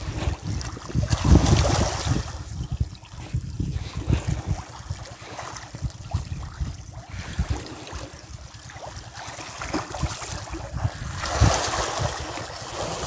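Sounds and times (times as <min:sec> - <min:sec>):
fish splashing in water: 0:00.0 - 0:13.0
wind buffeting microphone: 0:00.0 - 0:13.0.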